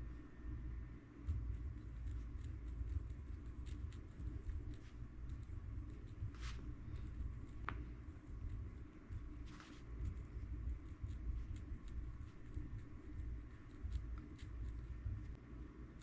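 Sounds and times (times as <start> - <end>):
low steady rumble: 0.0 - 16.0
pen scratching on paper: 1.3 - 15.0.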